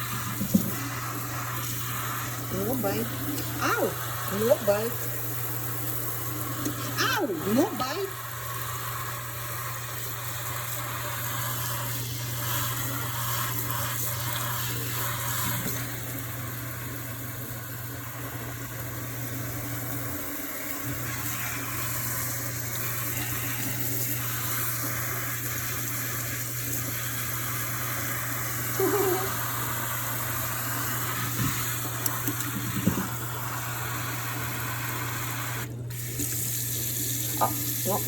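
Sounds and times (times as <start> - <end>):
tap water running into sink: 0.0 - 4.4, 5.0 - 28.7, 29.4 - 38.0.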